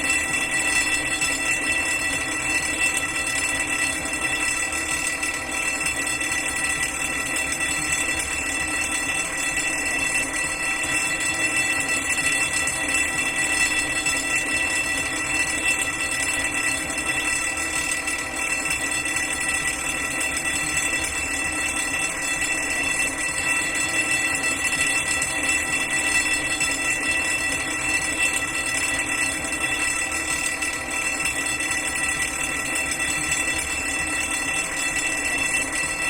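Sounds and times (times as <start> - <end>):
fire alarm bell ringing: 0.0 - 36.0.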